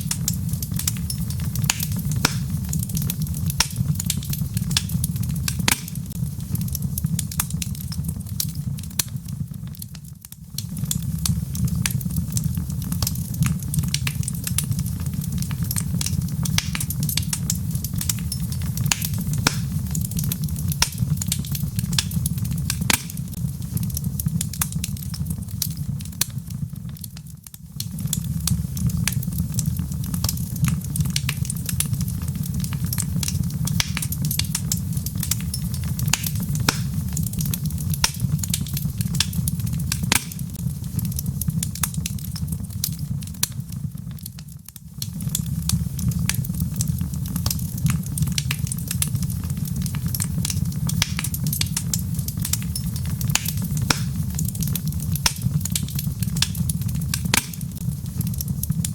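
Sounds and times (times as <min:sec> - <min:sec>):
fire crackling and popping: 0:00.0 - 0:58.9
low rumble of flame: 0:00.0 - 0:58.9.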